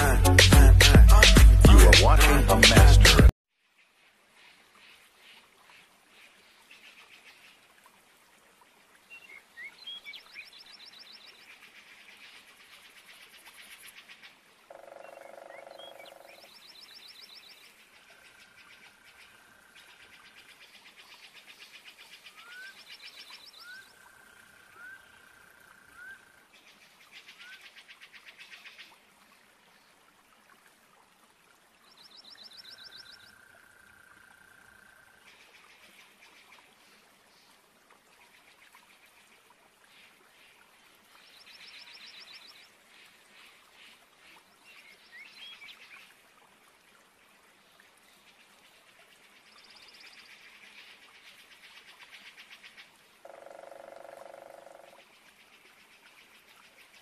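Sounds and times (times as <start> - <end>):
soft steady hiss: 3.6 - 57.0.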